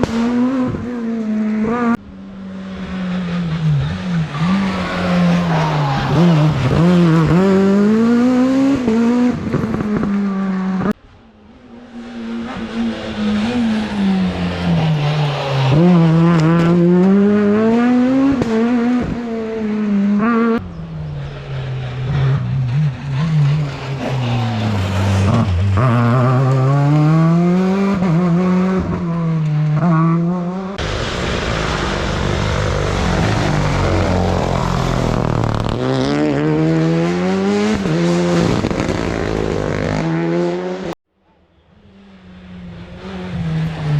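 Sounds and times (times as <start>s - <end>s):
rally car engine revving: 0.0s - 41.0s, 41.8s - 43.9s.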